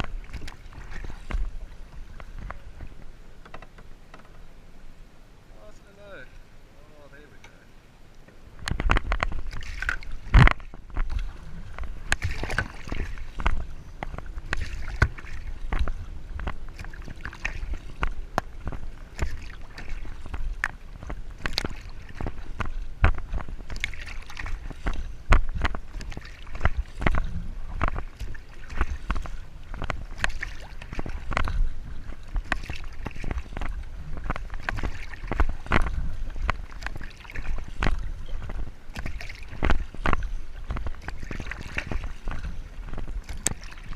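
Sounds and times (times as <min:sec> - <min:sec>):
low steady rumble: 0:00.0 - 0:43.9
water splashing against a kayak: 0:00.0 - 0:43.9.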